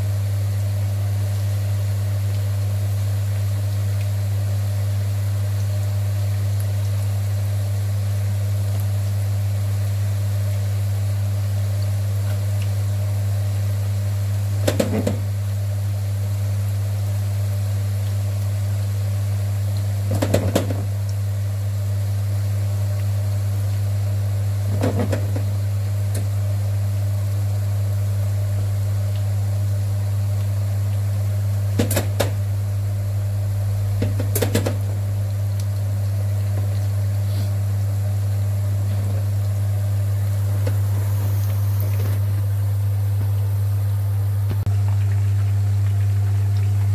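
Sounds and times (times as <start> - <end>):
meatballs sizzling in oil: 0.0 - 46.9.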